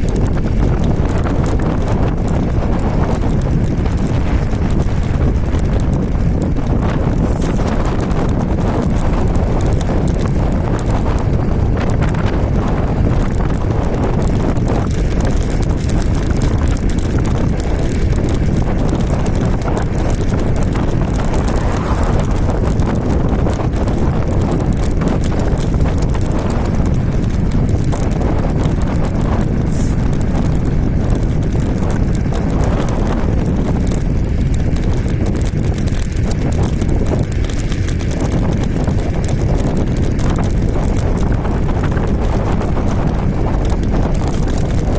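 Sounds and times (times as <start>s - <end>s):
scooter road noise: 0.0s - 44.9s
wind rumble on microphone: 0.0s - 44.9s.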